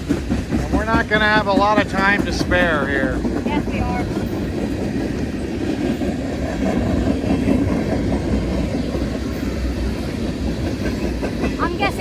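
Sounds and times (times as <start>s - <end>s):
freight train wheels on track: 0.0s - 12.0s.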